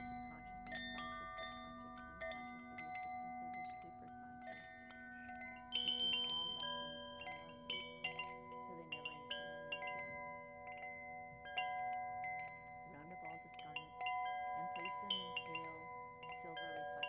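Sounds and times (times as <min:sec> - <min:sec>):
metallic chimes ringing: 0:00.0 - 0:17.0.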